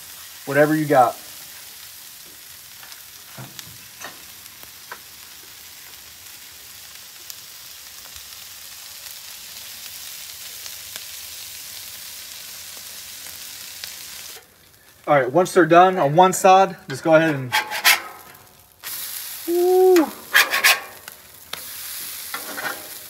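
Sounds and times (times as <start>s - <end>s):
butter sizzling on griddle: 0.0s - 23.0s.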